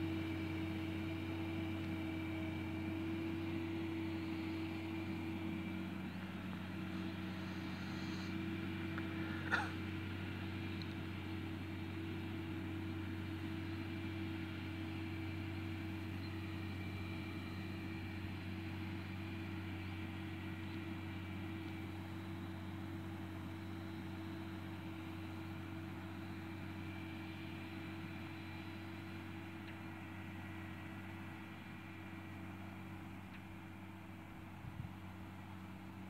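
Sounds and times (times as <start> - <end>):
distant tractor engine hum: 0.0 - 36.0.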